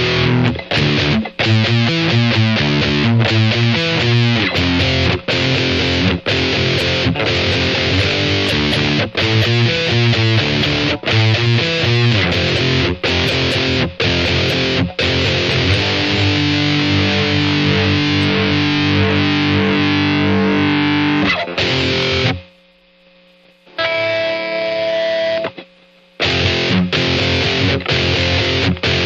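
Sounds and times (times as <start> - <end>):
distorted electric guitar chords: 0.0 - 22.7, 23.7 - 29.0.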